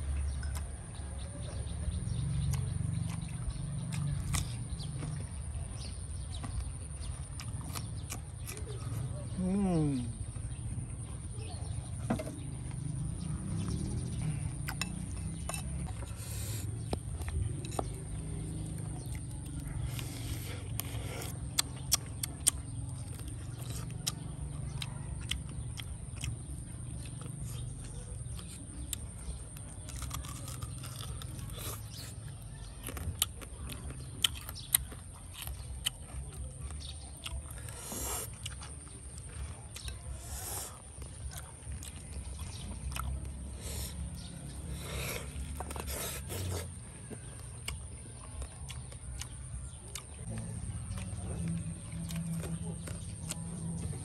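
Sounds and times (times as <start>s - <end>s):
person chewing crunchy food: 0.0s - 54.0s
crunchy snaps: 1.9s - 9.1s, 11.9s - 54.0s.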